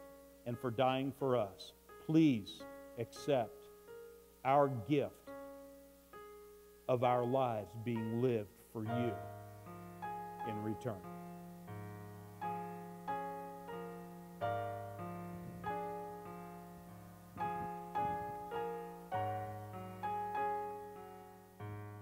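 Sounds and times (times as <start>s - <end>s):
slow soft piano chords: 0.0s - 22.0s.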